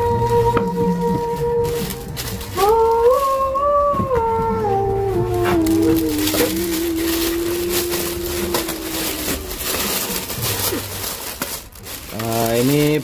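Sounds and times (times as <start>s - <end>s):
steady humming tone: 0.0s - 12.2s
plastic bag rustling: 0.0s - 13.0s.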